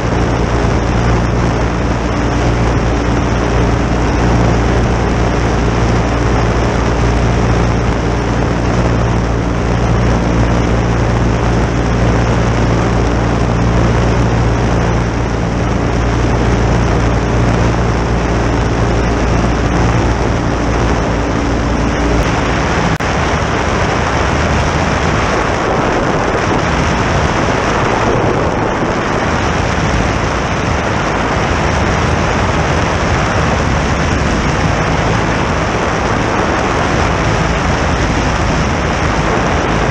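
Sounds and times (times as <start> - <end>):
aircraft engine and propeller: 0.0 - 39.9
rush of air: 0.0 - 39.9.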